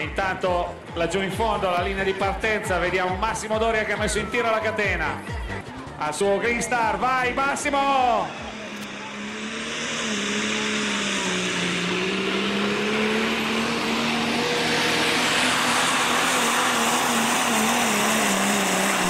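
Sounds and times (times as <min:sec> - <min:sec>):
tractor engine at full throttle: 0:00.0 - 0:19.0.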